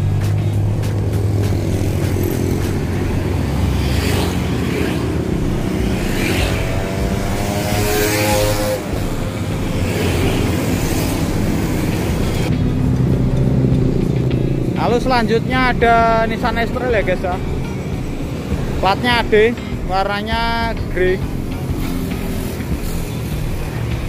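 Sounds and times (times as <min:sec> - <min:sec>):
motorcycles passing: 0:00.0 - 0:24.0
passing engine note: 0:00.0 - 0:24.0
road traffic passing: 0:00.0 - 0:24.0.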